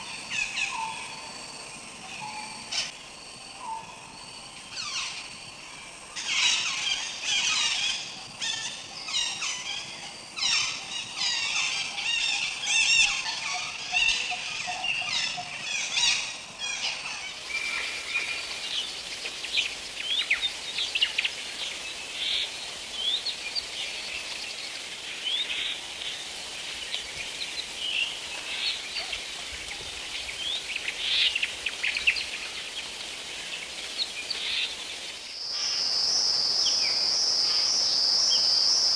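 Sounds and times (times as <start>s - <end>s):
forest birds calling: 0.0s - 3.0s, 4.6s - 38.9s.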